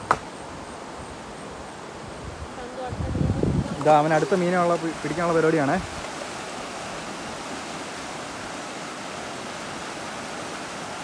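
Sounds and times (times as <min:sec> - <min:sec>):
river water rushing over rapids: 0:00.0 - 0:11.0.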